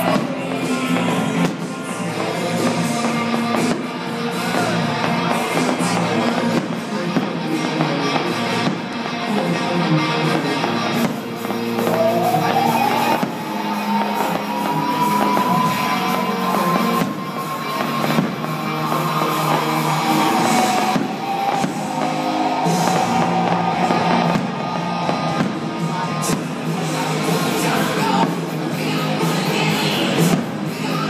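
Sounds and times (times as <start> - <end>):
fireworks bursting with bangs: 0.0 - 31.0
rock music with singing: 0.0 - 31.0.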